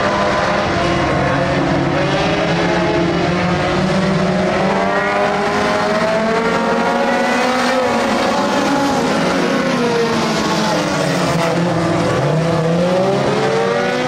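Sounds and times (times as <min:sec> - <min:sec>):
race car engines running hard: 0:00.0 - 0:14.0.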